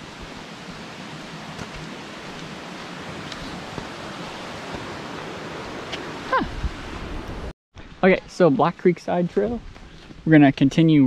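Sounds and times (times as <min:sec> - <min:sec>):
creek water flowing: 0:00.0 - 0:09.4.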